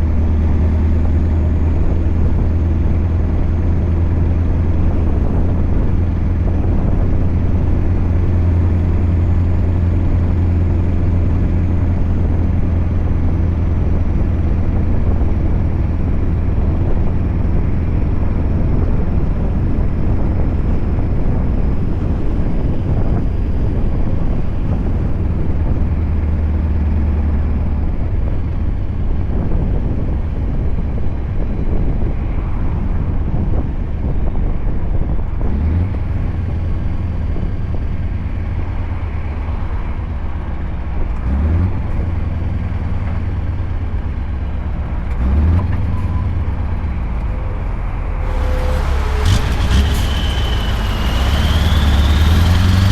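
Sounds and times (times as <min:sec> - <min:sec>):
diesel truck engine droning: 0:00.0 - 0:32.2, 0:35.0 - 0:52.9.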